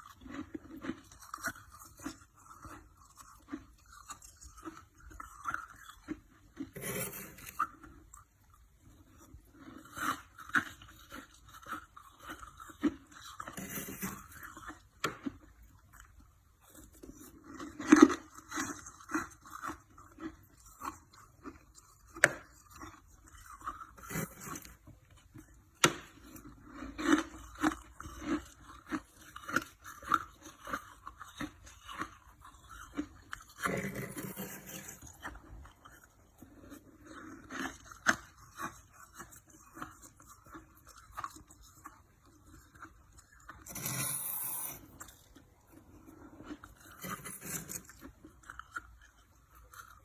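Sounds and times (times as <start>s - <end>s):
chewing frost crunches: 0.0s - 50.0s.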